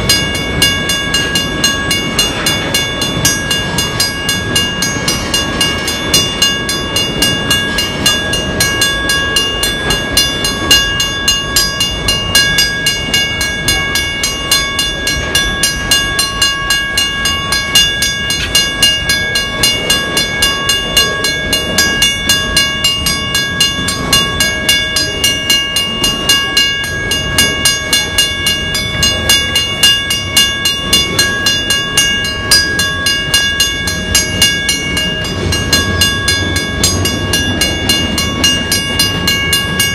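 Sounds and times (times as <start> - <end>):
high-pitched ringing tone: 0.0 - 39.9
train wheels clacking over rail joints: 0.0 - 39.9.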